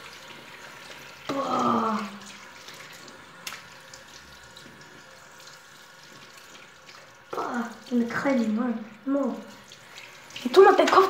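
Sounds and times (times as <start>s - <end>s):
tap water running into basin: 0.0s - 11.0s.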